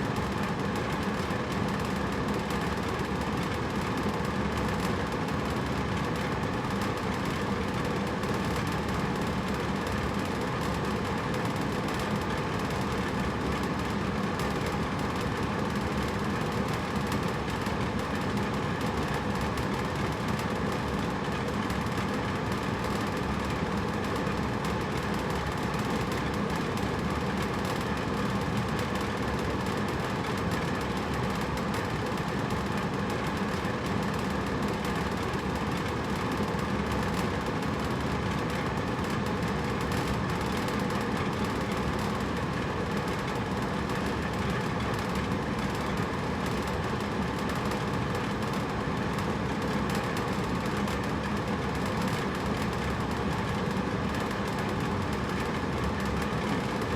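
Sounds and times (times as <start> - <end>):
air conditioner fan hum: 0.0 - 56.9.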